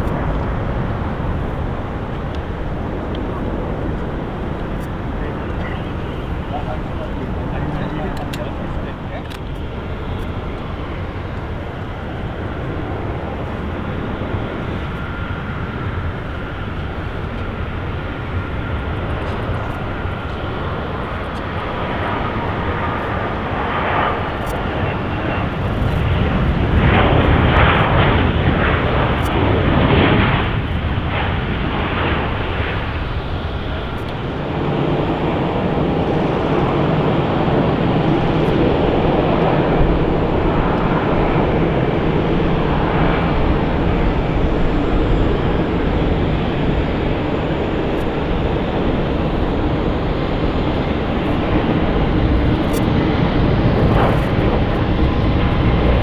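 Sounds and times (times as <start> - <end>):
jet airliner engines rumbling: 0.0 - 56.0.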